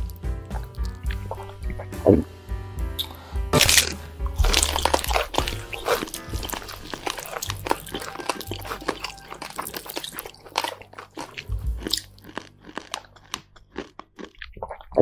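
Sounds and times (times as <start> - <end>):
crunchy chewing: 0.0 - 1.9, 3.0 - 15.0.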